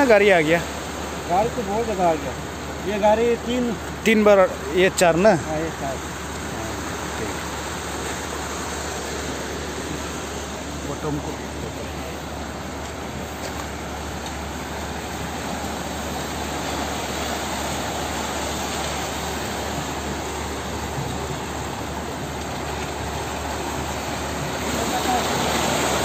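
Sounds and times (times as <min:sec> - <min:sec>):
construction machinery engines: 0:00.0 - 0:26.0.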